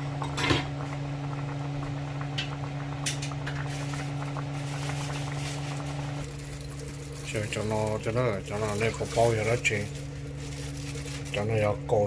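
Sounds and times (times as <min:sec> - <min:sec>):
pot simmering and bubbling: 0:00.0 - 0:12.0
steady low hum: 0:00.0 - 0:12.0.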